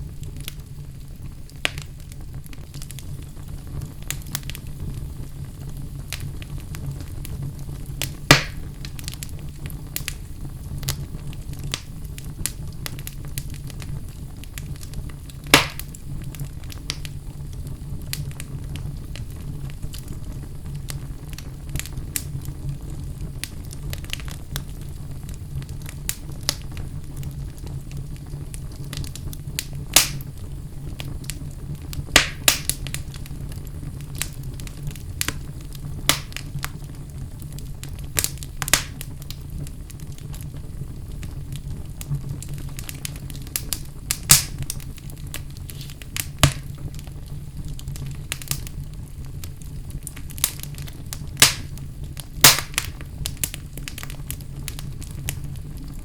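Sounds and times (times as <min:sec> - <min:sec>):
fire crackling and popping: 0:00.0 - 0:56.0
flames rumbling: 0:00.0 - 0:56.0.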